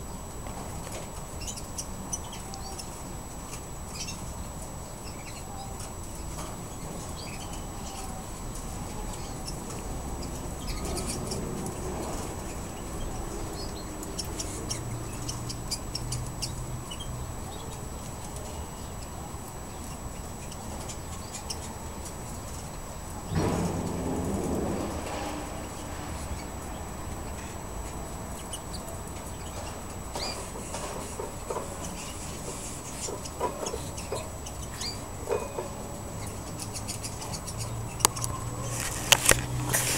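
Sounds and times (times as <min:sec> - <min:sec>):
canaries chirping: 0:00.0 - 0:39.9
steady low hum: 0:00.0 - 0:39.9.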